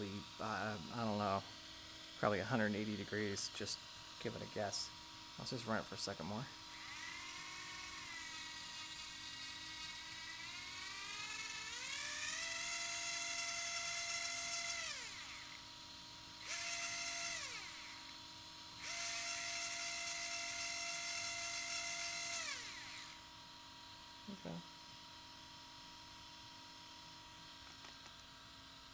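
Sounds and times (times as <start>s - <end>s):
electric motor whine: 0.0s - 23.4s.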